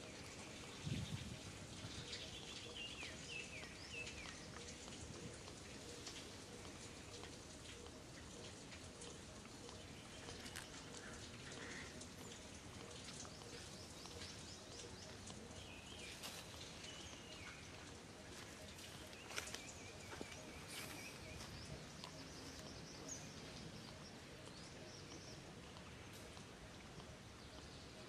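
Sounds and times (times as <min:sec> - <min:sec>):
faint outdoor background noise: 0:00.0 - 0:28.0.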